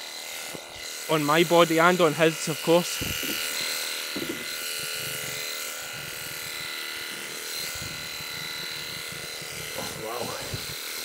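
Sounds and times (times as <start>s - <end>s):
electric shears buzzing whine: 0.0s - 11.0s.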